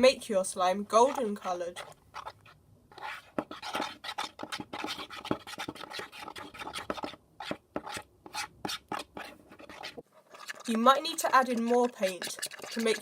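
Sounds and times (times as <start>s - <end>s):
spoon scraping bowl: 1.0s - 13.0s.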